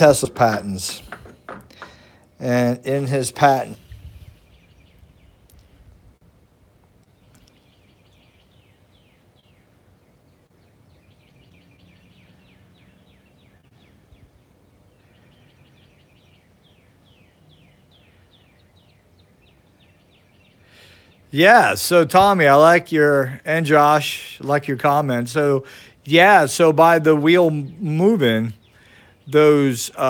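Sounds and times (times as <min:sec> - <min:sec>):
low background noise: 0:00.0 - 0:30.0.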